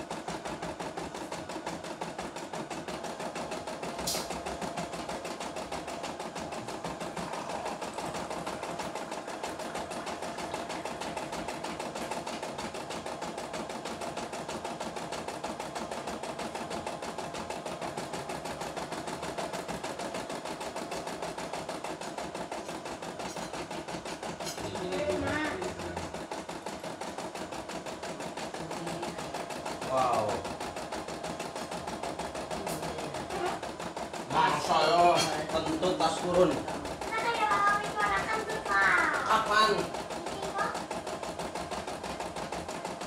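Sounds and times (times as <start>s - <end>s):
embroidery machine stitching: 0.0s - 43.0s.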